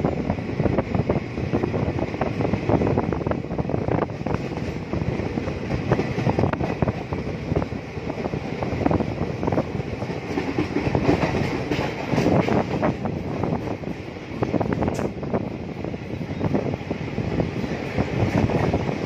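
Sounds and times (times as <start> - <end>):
train coach rumbling: 0.0 - 19.0.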